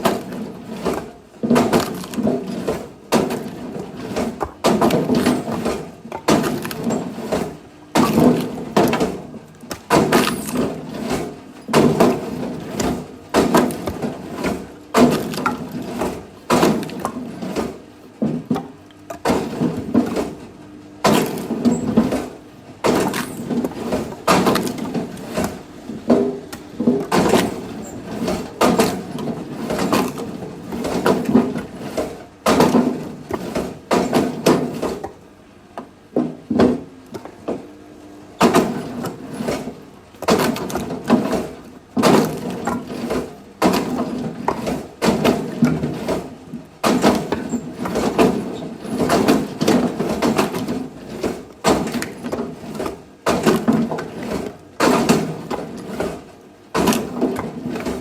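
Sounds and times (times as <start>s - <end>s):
axe splitting firewood: 0.1s - 17.8s, 21.0s - 35.2s, 38.4s - 58.0s.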